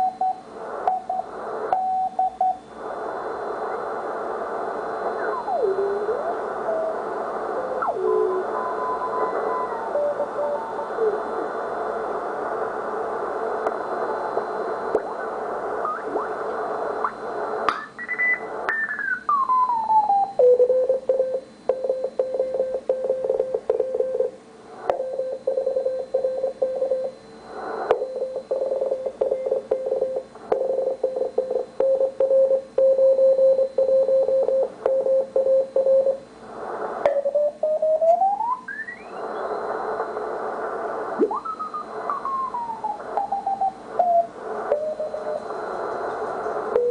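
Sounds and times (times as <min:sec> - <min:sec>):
radio band hiss: 0:00.0 - 0:46.9.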